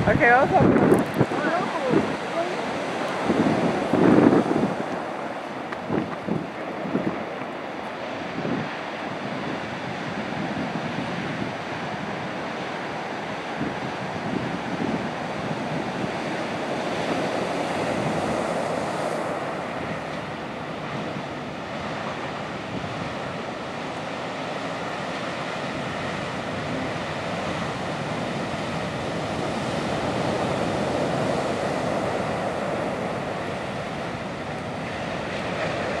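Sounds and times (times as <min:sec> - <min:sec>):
ocean surf breaking on beach: 0:00.0 - 0:36.0.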